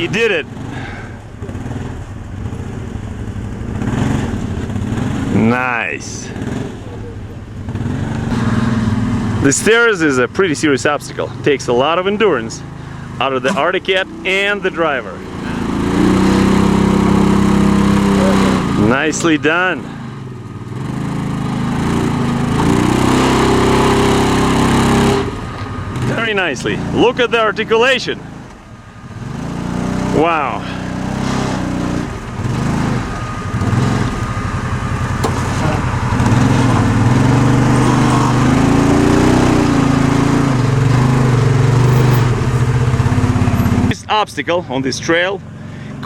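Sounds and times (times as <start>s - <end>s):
utility vehicle engine under load: 0.0s - 44.1s.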